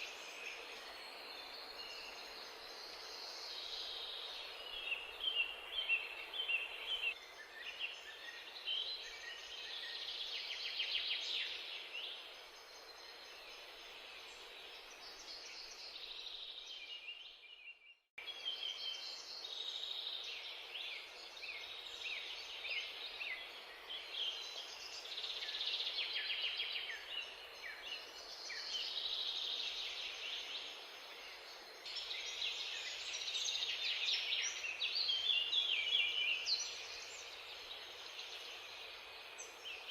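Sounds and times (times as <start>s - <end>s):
background hiss: 0.0s - 17.6s, 18.2s - 39.9s
birds chirping and twittering: 0.0s - 39.9s.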